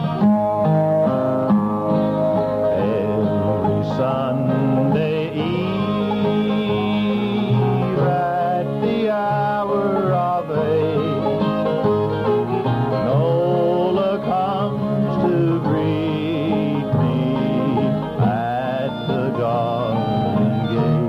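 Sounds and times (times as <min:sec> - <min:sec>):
banjo picking: 0:00.0 - 0:21.0
sliding lead melody: 0:00.0 - 0:21.0
string band playing: 0:00.0 - 0:21.0.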